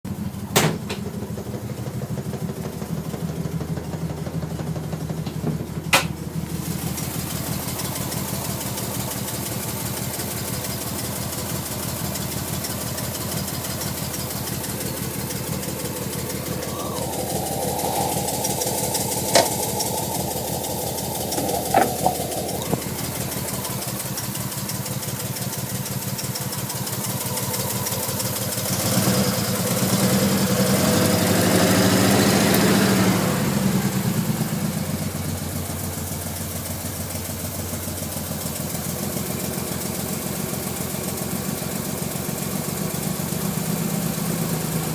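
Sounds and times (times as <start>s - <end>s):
car engine running rough: 0.0s - 44.9s.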